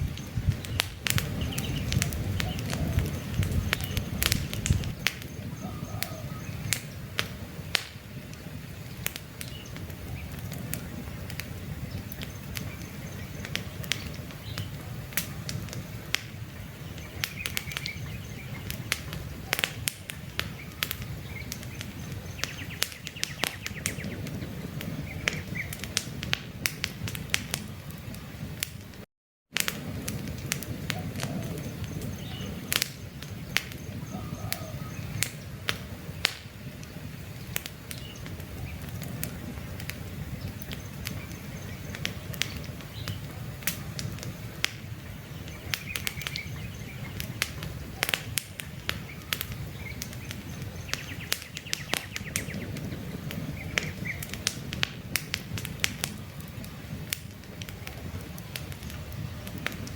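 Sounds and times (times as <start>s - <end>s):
birds chirping: 0.0s - 26.0s, 30.3s - 59.9s
campfire crackling and popping: 0.0s - 59.9s.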